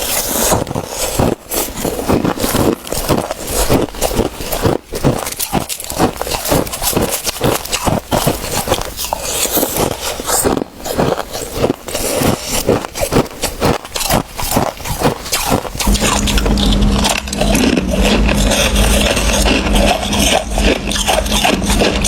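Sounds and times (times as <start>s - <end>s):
crushed ice crunching: 0.0s - 22.0s.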